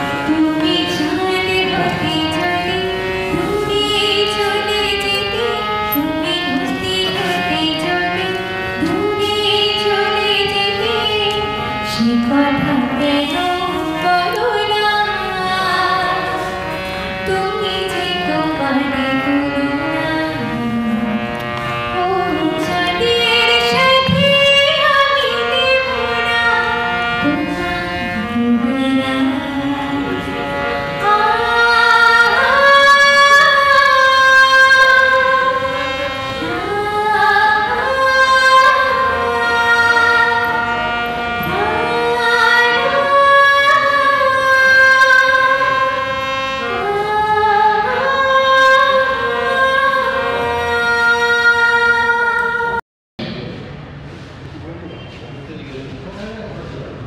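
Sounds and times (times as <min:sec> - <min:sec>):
woman singing into a microphone: 0:00.0 - 0:52.8.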